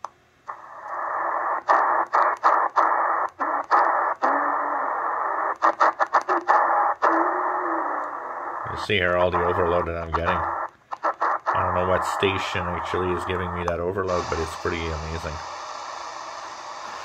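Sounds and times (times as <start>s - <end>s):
radio static hiss: 0.5s - 17.0s.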